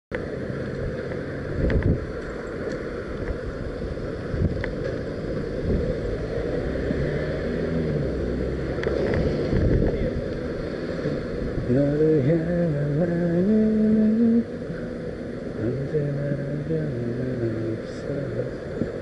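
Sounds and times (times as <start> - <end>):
low wind rumble: 0.1 - 19.0
road noise: 0.1 - 19.0.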